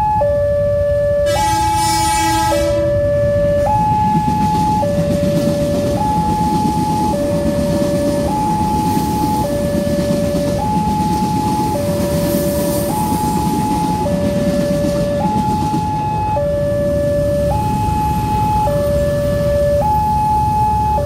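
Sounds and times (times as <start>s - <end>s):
two-tone crossing alarm: 0.0s - 21.0s
passing train rumble: 1.2s - 21.0s.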